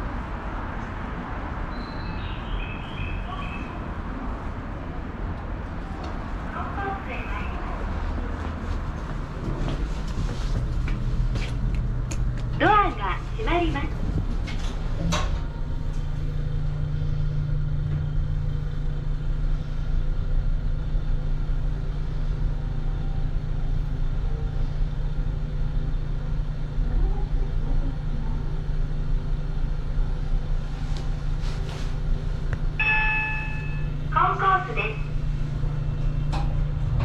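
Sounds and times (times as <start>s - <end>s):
elevator hum and rumble: 0.0s - 37.0s.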